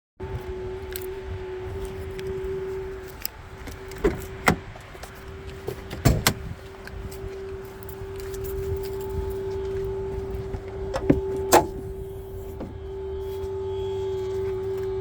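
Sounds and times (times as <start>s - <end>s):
vehicle whine over rumble: 0.2s - 15.0s.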